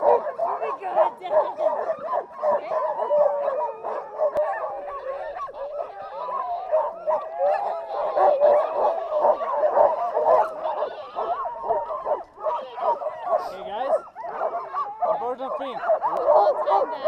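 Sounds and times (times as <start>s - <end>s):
sled dogs barking and yelping: 0.0s - 17.0s.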